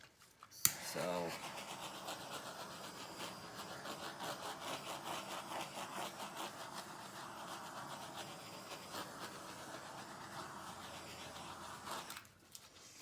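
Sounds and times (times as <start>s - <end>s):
rhythmic scratching strokes: 0.8s - 12.2s.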